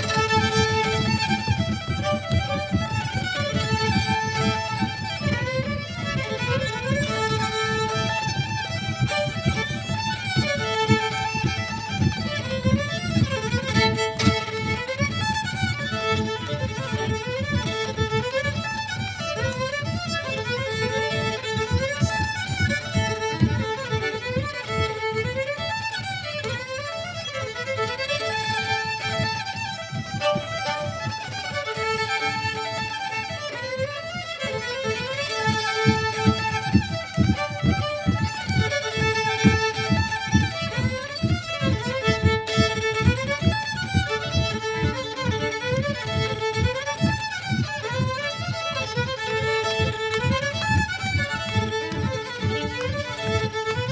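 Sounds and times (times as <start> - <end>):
low pulsing accompaniment: 0.0 - 53.9
two violins playing a duet: 0.0 - 53.9.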